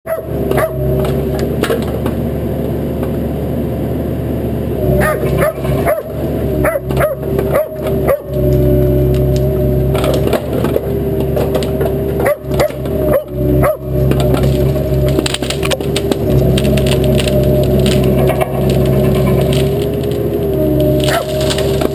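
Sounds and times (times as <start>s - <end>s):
diesel engine running: 0.1s - 21.9s
brush and trees cracking: 0.2s - 2.4s, 5.2s - 21.9s.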